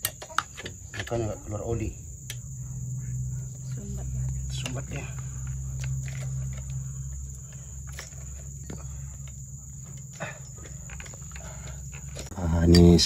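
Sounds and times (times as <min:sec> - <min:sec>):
insects buzzing: 0:00.0 - 0:13.0
low hum: 0:00.7 - 0:13.0.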